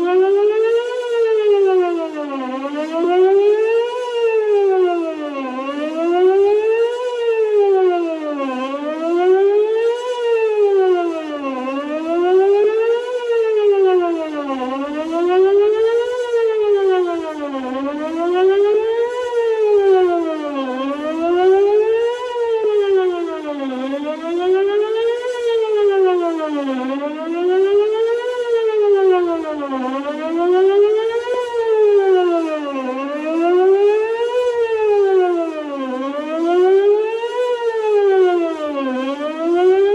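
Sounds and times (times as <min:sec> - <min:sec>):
rising and falling warning siren: 0:00.0 - 0:39.9.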